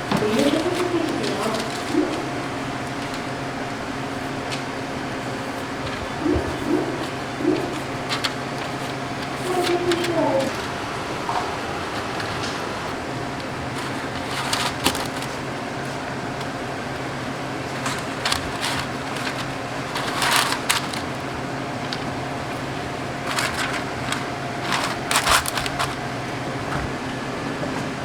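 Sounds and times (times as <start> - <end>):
kitchen appliances humming: 0.0 - 28.0
rustling crinkling and scraping: 0.0 - 28.0.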